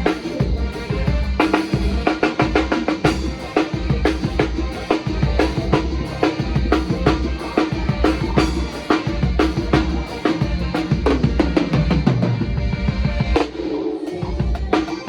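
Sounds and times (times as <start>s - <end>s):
drum kit groove: 0.0s - 15.0s.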